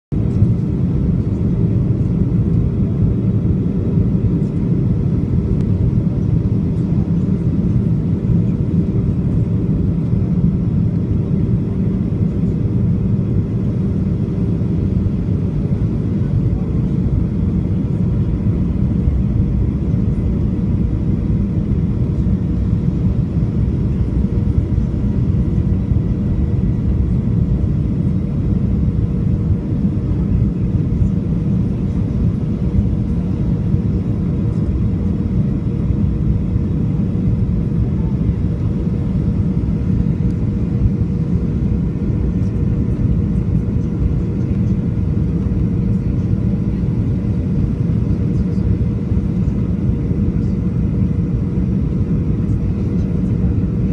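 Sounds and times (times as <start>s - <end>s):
airplane cabin engine rumble: 0.1s - 53.9s
faint steady hum: 0.2s - 53.9s.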